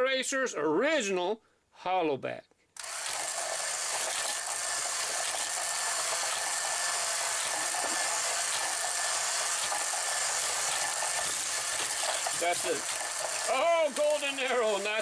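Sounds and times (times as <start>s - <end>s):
toy track motor whirring: 2.8s - 15.0s.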